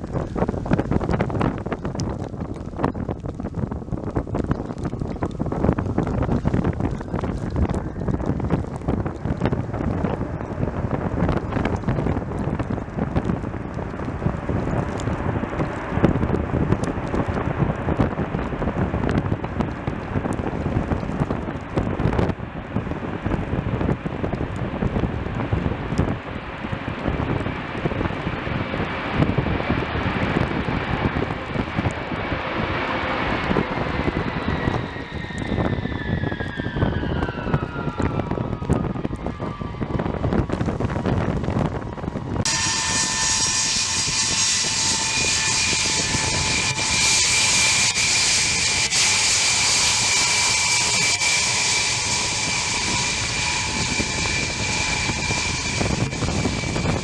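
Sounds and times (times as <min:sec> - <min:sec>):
jet engines whining: 0:00.0 - 0:57.0
wind buffeting microphone: 0:00.0 - 0:57.0.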